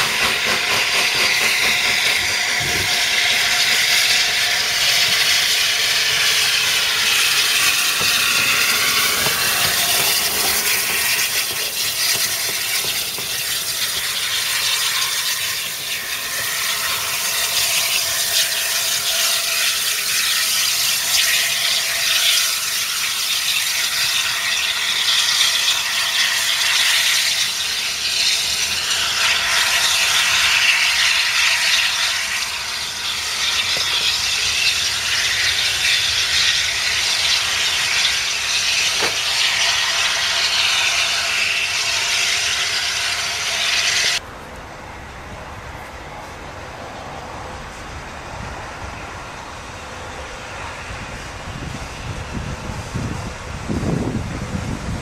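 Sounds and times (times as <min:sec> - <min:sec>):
loud hiss of steam: 0:00.0 - 0:44.2
steam locomotive moving slowly: 0:00.0 - 0:55.0.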